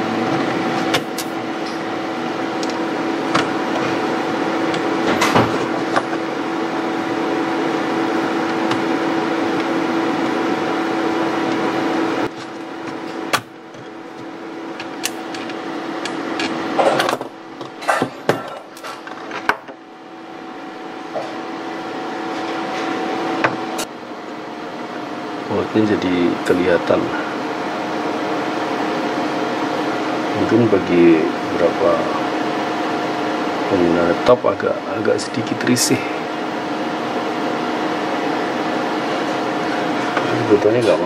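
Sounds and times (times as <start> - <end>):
fan hum: 0.0 - 41.0.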